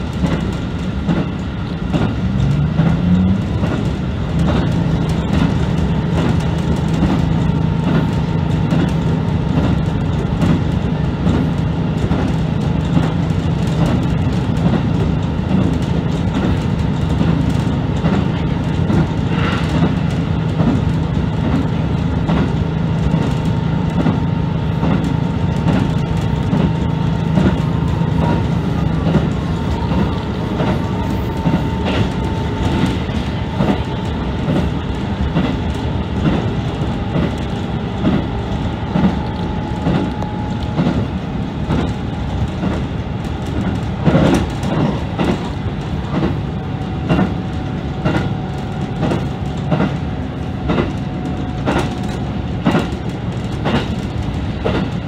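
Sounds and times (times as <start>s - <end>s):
diesel railcar engine drone: 0.0s - 55.0s
wheels clicking over rail joints: 0.0s - 55.0s.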